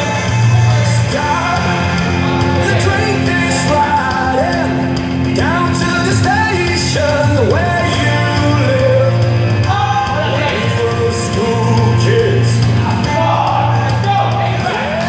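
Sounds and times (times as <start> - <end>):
loud rock music with singing: 0.0 - 15.0.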